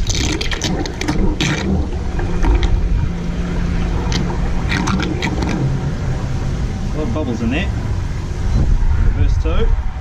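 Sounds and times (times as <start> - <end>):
sharp water splashes: 0.0 - 8.4
low motor hum: 0.0 - 10.0
water churning: 0.0 - 10.0.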